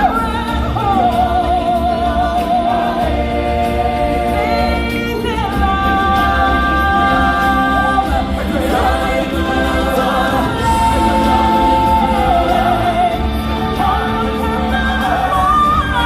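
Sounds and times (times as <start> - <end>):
choir and soloists singing: 0.0 - 16.0
recorded backing music: 0.0 - 16.0.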